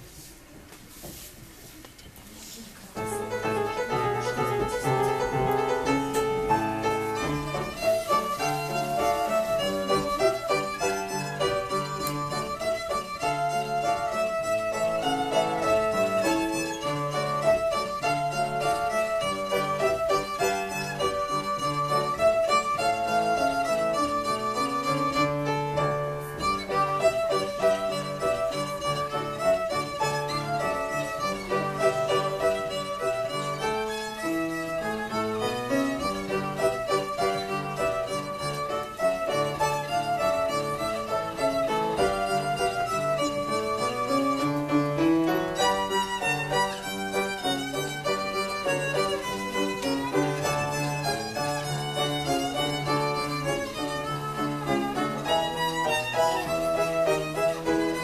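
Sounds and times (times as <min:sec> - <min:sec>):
piano accompaniment: 0:02.8 - 0:58.0
violin melody: 0:02.9 - 0:58.0.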